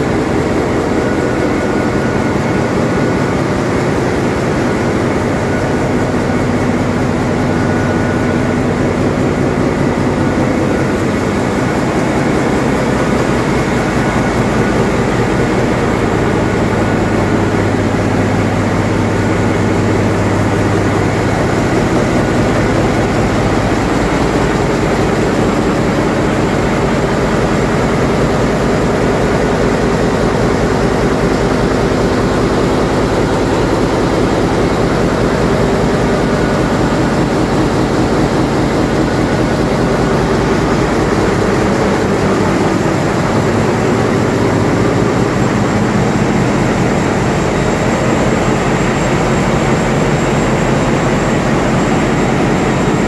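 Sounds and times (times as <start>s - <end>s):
engine room machinery din: 0.0s - 53.0s.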